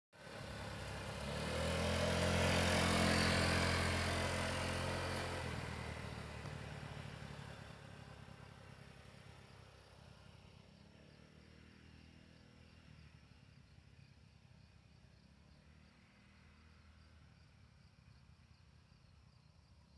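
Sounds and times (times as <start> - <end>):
scooter engine passing by: 0.2 - 19.3.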